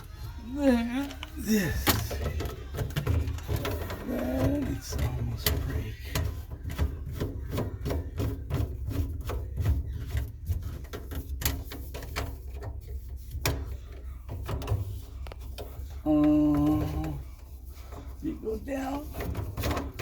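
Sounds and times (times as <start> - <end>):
plastic drain parts clicking: 0.0 - 18.2, 18.9 - 20.0.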